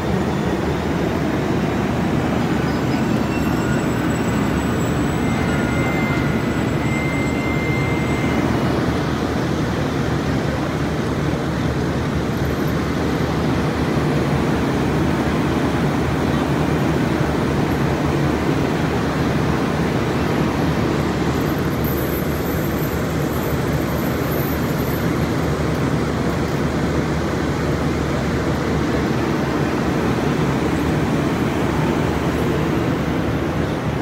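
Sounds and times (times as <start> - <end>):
train wheels rolling on rails: 0.0 - 34.0.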